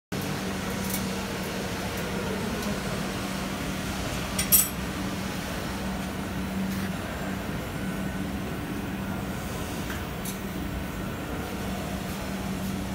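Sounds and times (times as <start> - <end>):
factory hall hum: 0.2 - 12.9.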